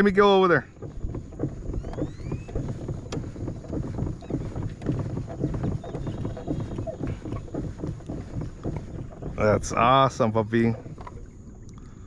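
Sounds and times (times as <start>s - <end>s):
water splashing around boat: 0.0s - 12.0s
wind buffeting microphone: 0.0s - 12.0s.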